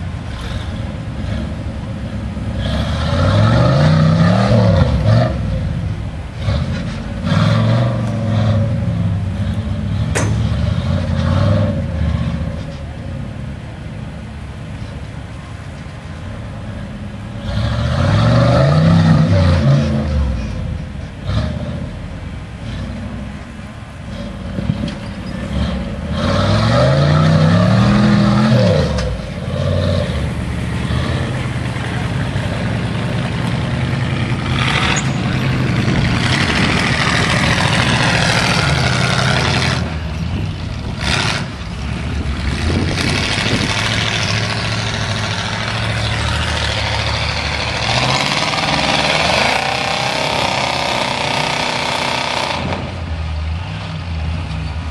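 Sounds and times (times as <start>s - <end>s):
off-road engines revving: 0.0s - 54.9s.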